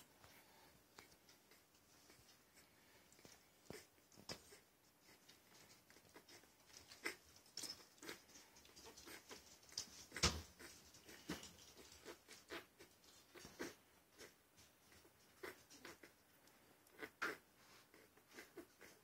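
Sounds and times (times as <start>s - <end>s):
puppies suckling: 0.0s - 19.0s.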